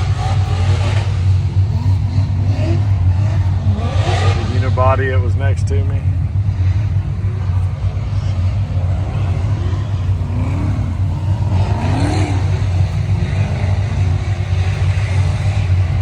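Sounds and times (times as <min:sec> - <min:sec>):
car engine drone: 0:00.0 - 0:16.0
road noise: 0:00.0 - 0:16.0.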